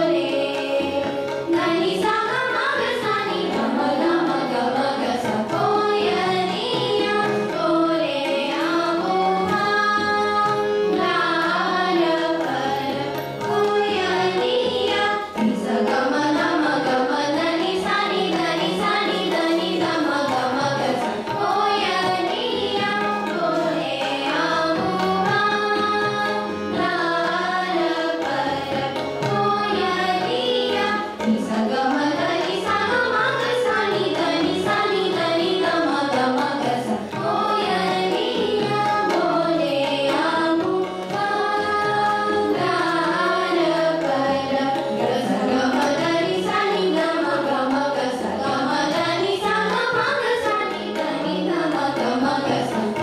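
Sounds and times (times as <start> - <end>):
girls singing together: 0.0 - 53.0
harmonium: 0.0 - 53.0
tabla: 0.0 - 53.0.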